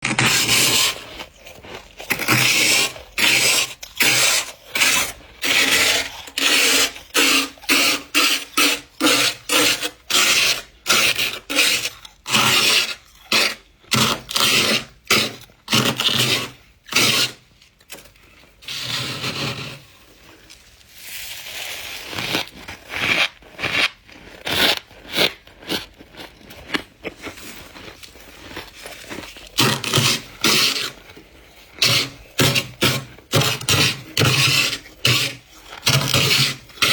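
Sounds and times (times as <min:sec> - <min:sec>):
scraper scraping frost: 0:00.0 - 0:17.5, 0:18.6 - 0:25.8, 0:28.2 - 0:36.9.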